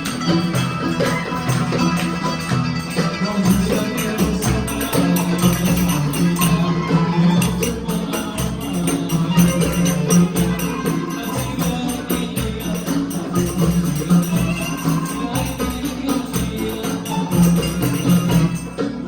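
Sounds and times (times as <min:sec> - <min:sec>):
percussion beat: 0:00.0 - 0:19.0.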